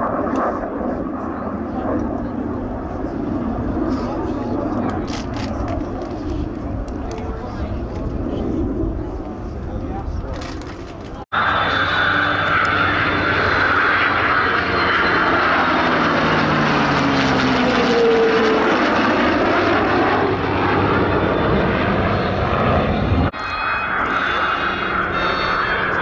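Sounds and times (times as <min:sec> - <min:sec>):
military aircraft flying past: 0:00.0 - 0:26.0.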